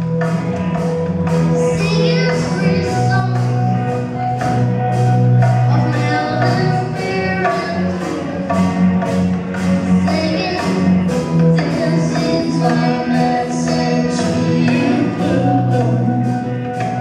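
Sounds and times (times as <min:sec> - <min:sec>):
live band playing reggae: 0:00.0 - 0:17.0.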